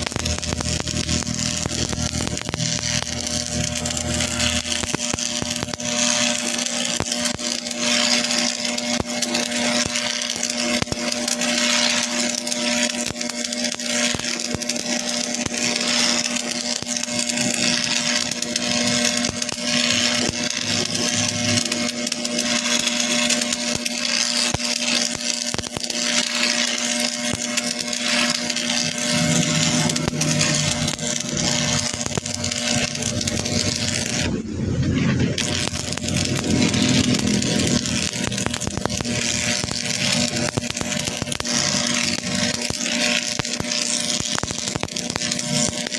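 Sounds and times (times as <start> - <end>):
arc welding hiss and crackle: 0.0 - 45.9
power tool grinding metal: 0.0 - 45.9.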